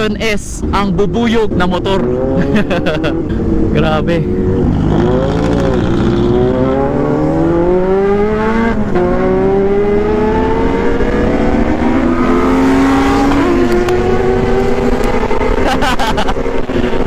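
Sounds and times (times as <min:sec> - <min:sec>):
motorcycle engine accelerating: 0:00.9 - 0:17.0.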